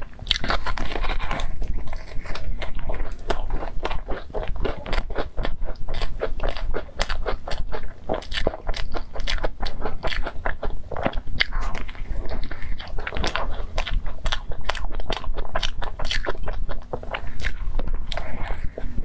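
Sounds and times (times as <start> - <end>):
crunchy pastry chewing: 0.0 - 19.0.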